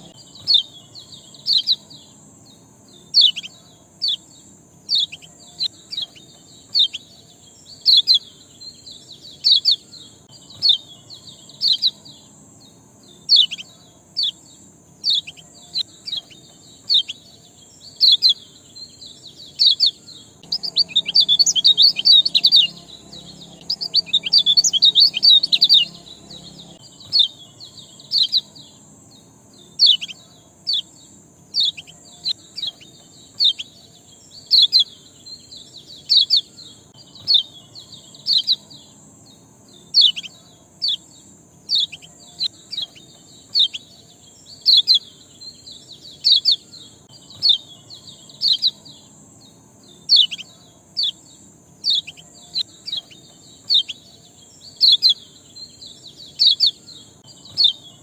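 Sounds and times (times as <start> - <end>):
songbird chirping: 0.0 - 58.0.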